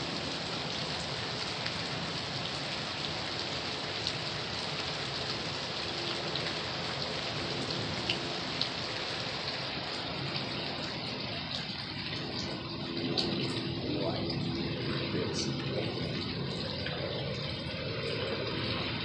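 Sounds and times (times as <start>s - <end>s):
rain drop ticks: 0.0s - 19.0s
steady rain falling: 0.0s - 19.0s.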